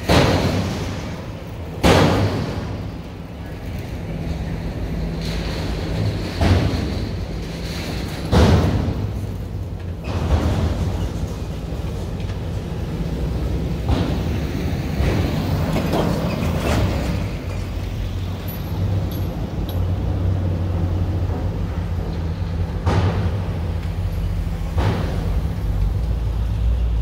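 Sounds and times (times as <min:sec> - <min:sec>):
ferry engines droning: 0:00.0 - 0:27.0.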